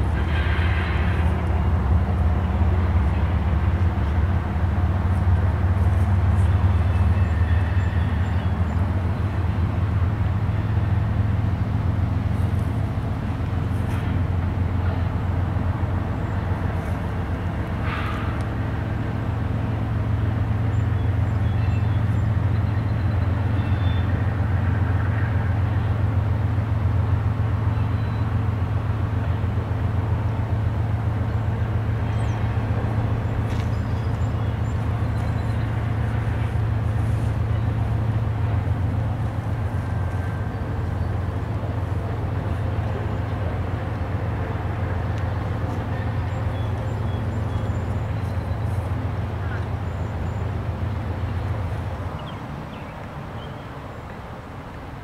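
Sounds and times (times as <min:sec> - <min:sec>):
distant freight train rumbling: 0:00.0 - 0:55.0.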